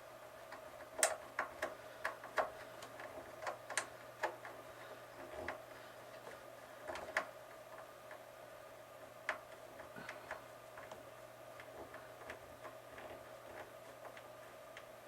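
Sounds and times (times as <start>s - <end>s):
faint hum: 0.0s - 15.0s
small clicks and taps: 0.4s - 8.3s, 9.0s - 15.0s.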